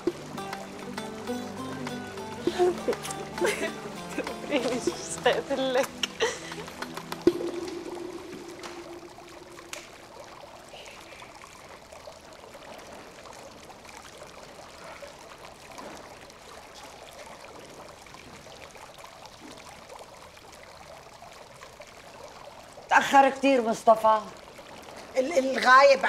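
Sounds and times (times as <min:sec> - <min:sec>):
fountain water trickling and splashing: 0:00.0 - 0:26.0.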